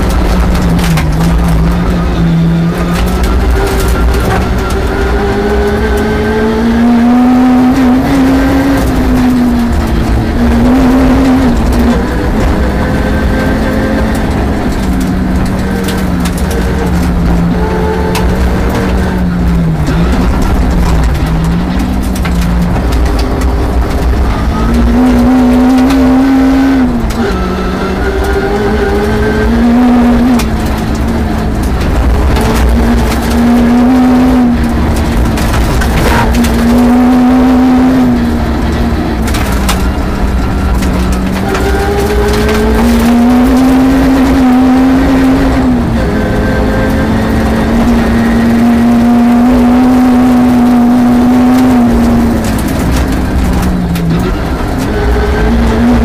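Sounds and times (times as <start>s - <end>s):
gravel rattling under car: 0.0s - 56.0s
rally car engine revving: 0.0s - 56.0s.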